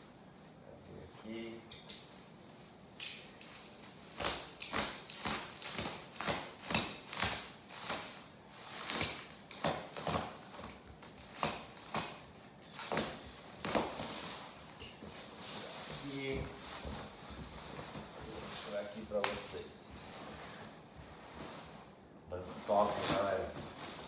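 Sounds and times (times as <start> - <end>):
bubble wrap rustling and crinkling: 2.0 - 24.0.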